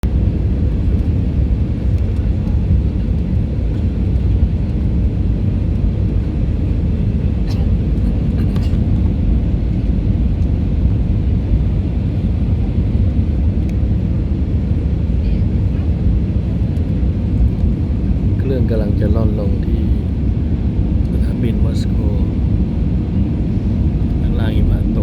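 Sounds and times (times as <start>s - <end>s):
jet cabin drone: 0.0s - 25.0s.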